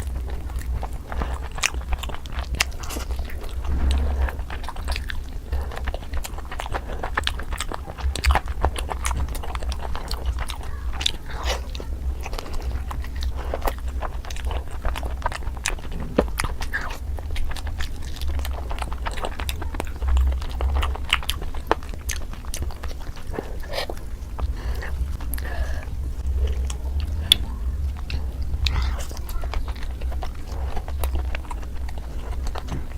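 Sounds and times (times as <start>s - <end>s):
person chewing and biting: 0.0s - 32.9s
steady low rumble: 0.0s - 32.9s.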